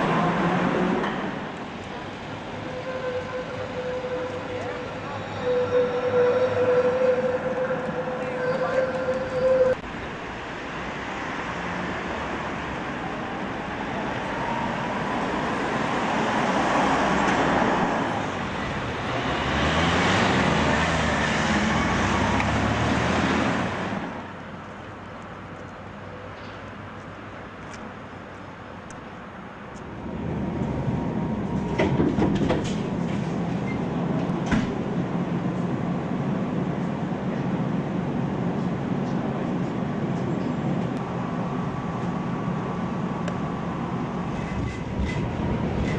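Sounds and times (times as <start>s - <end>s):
electric tram passing: 0.0s - 45.9s
street traffic: 0.0s - 45.9s.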